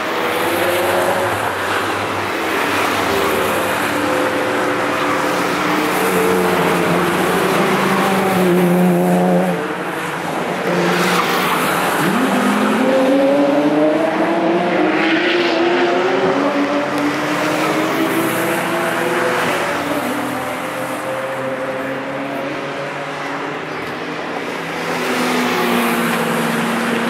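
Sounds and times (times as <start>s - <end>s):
racing car engines: 0.0s - 27.0s.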